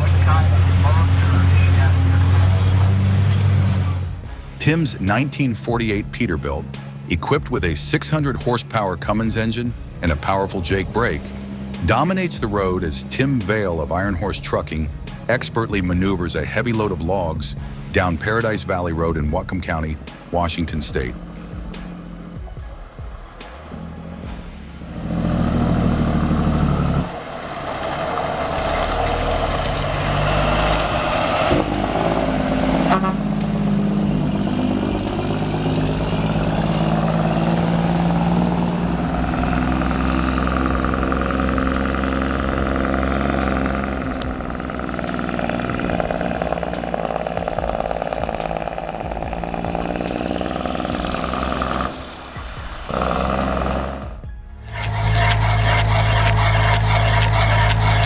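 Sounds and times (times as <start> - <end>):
truck diesel engine under load: 0.0 - 58.0.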